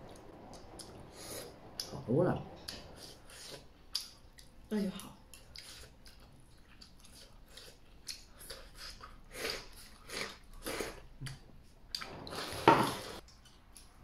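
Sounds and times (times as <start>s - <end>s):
person chewing food: 0.0s - 2.0s, 2.6s - 14.0s.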